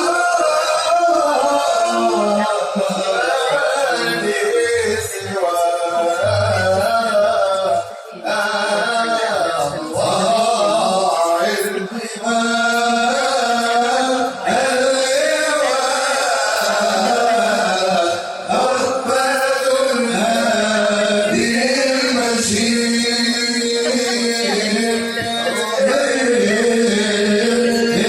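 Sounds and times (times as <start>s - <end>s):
men singing devotional chant: 0.0s - 28.0s.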